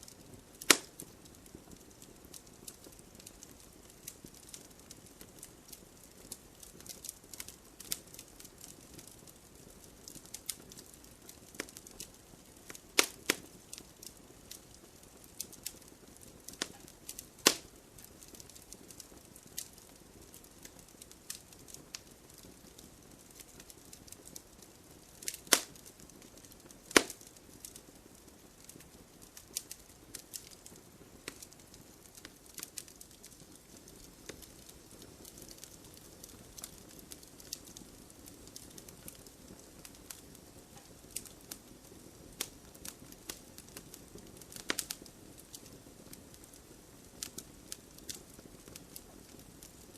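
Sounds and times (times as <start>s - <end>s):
campfire crackling: 0.0s - 49.9s
loud sharp pops of fire: 0.0s - 49.9s.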